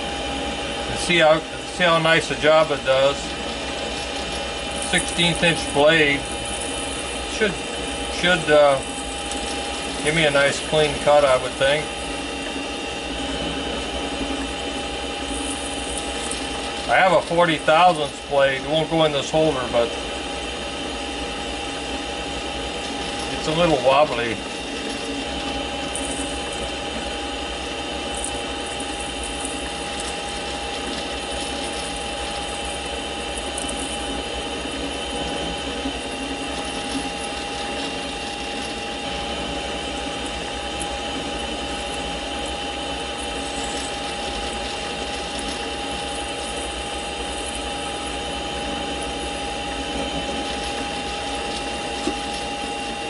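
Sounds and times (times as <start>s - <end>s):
lathe running with steady whine: 0.0s - 53.0s.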